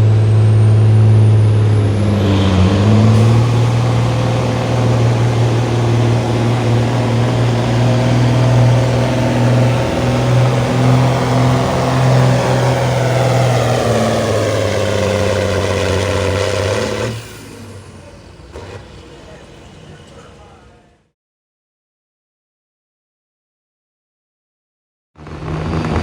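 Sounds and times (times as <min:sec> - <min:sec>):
engine running at high revs: 0:00.0 - 0:20.3, 0:25.2 - 0:26.0.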